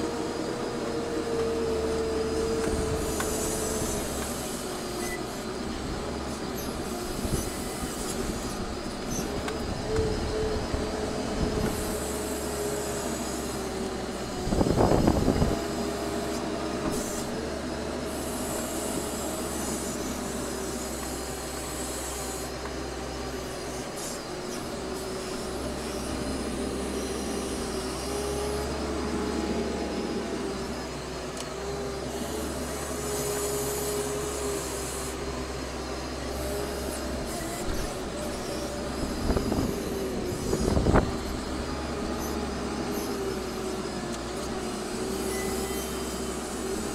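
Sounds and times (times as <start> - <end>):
wheel loader engine drone: 0.0 - 46.9.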